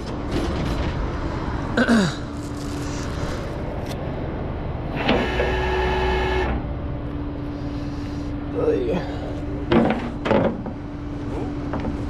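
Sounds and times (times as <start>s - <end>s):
steady whine: 0.0s - 12.0s.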